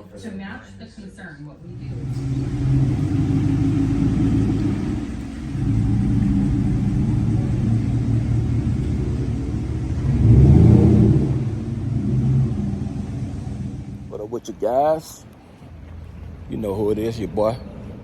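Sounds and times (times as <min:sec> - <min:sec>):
vehicle engine rumbling: 0:01.6 - 0:18.0.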